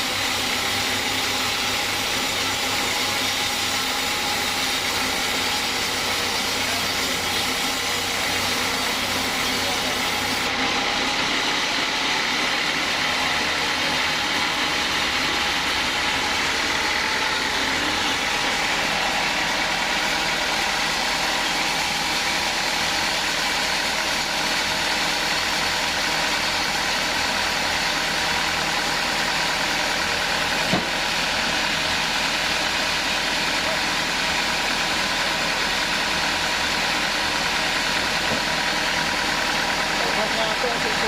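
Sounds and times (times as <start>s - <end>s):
sawmill saw droning: 0.0s - 41.0s.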